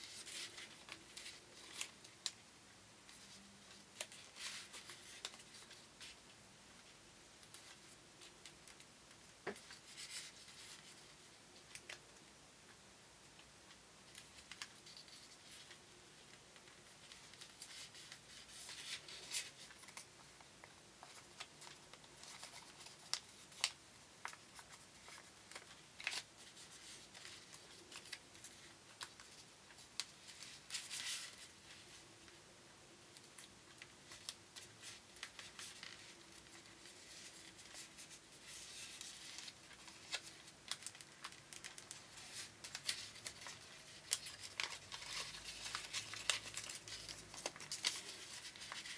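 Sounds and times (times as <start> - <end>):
paper being folded and creased: 0.0 - 2.4, 3.1 - 6.2, 9.5 - 12.0, 14.1 - 20.4, 21.0 - 32.0, 33.2 - 48.9.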